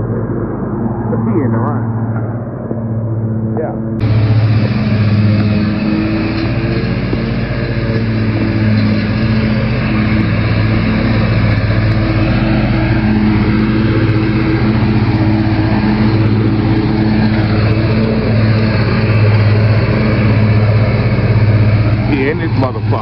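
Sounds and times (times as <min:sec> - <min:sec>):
riding mower engine humming: 0:00.0 - 0:23.0.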